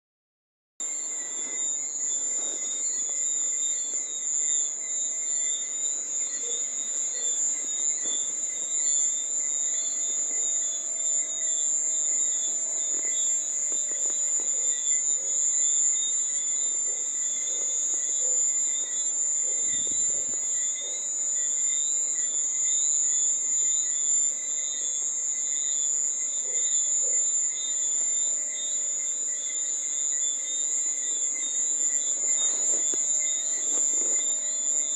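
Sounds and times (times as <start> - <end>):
cricket chirping: 0.8 - 34.9.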